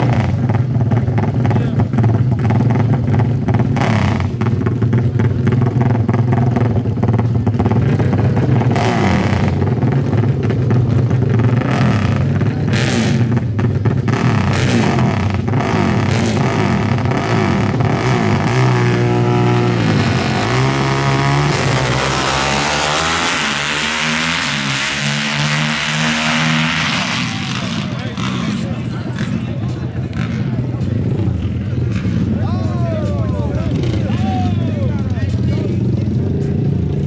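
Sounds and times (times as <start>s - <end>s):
atv engines revving: 0.0s - 37.0s.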